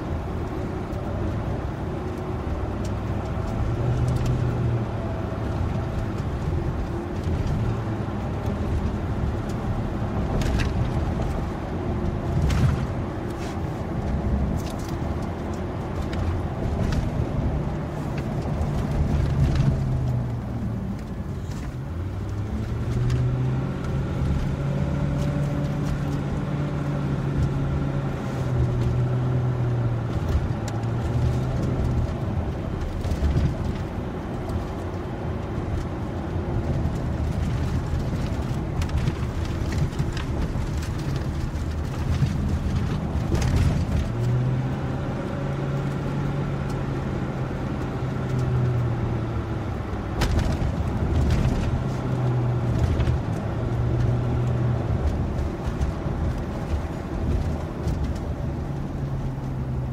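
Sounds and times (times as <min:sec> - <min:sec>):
car engine hum: 0:00.0 - 0:59.9
tyre and road noise: 0:00.0 - 0:59.9.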